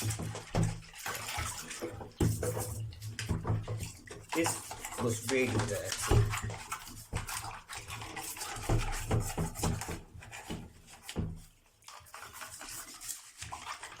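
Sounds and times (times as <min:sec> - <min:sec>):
scrubbing by hand: 0:00.0 - 0:14.0.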